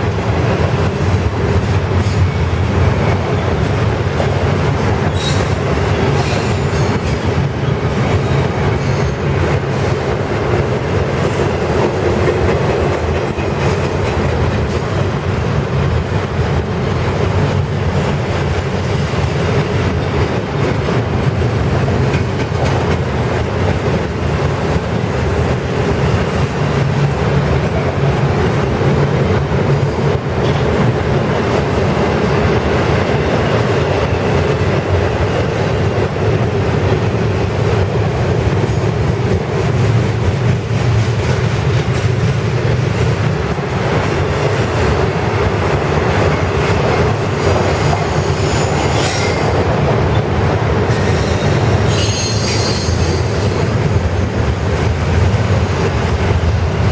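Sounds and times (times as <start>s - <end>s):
steel wheels rumbling on rail: 0.0s - 56.9s.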